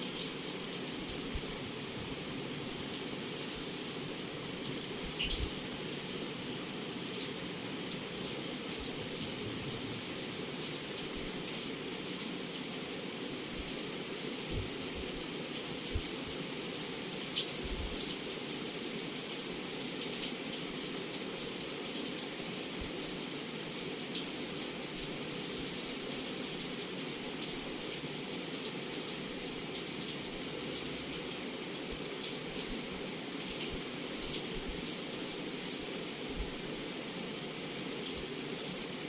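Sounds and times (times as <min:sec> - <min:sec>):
heavy rain against a window: 0:00.0 - 0:39.0.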